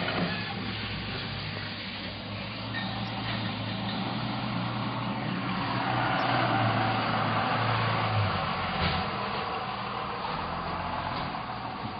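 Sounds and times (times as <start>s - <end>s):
boat engine humming: 0.0s - 11.9s.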